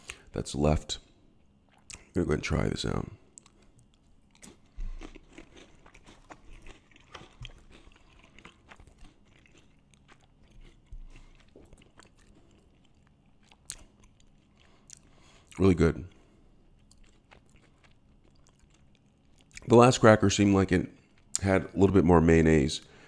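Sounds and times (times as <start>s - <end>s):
crunching and chewing cracker: 1.4s - 2.2s, 2.8s - 20.2s, 20.9s - 21.8s.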